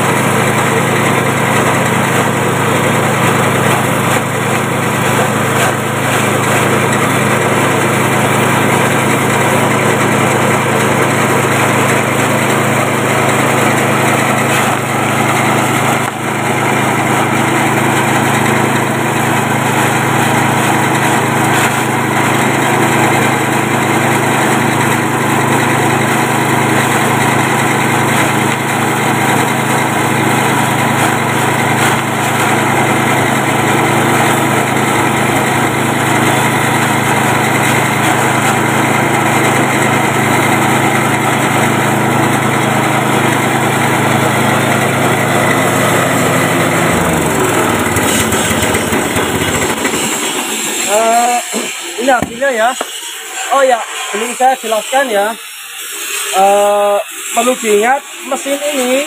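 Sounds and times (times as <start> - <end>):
grass chopper cutting grass: 0.0 - 59.0
small engine running under load: 0.0 - 59.0.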